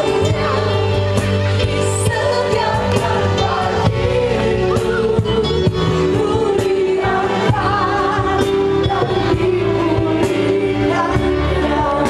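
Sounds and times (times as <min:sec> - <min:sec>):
voices singing: 0:00.0 - 0:12.0.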